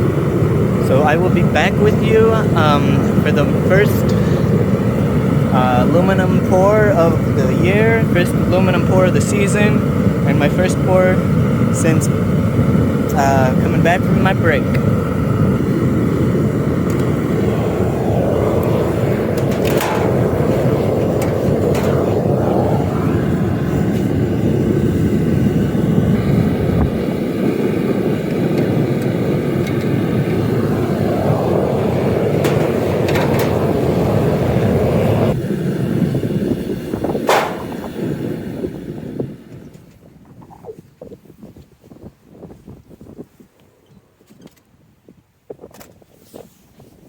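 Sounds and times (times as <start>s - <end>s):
gas furnace roaring: 0.0s - 40.6s.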